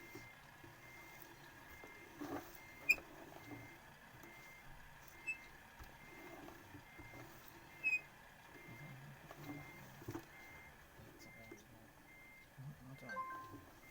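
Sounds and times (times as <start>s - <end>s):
reversing warning beeper: 0.1s - 13.9s.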